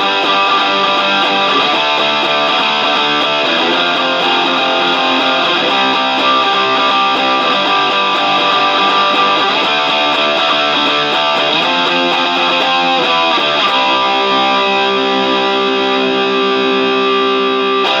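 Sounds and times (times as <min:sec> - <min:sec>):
guitar-led band music: 0:00.0 - 0:18.0
strummed electric guitar: 0:00.0 - 0:18.0.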